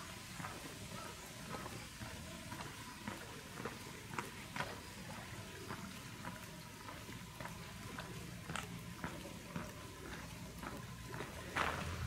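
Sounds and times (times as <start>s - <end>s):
footsteps on stone paving: 0.0s - 12.0s.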